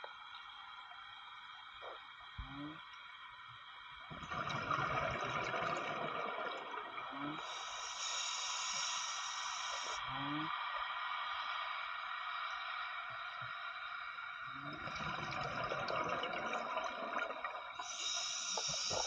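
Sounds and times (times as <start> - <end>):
underwater water noise hiss: 0.0 - 19.0.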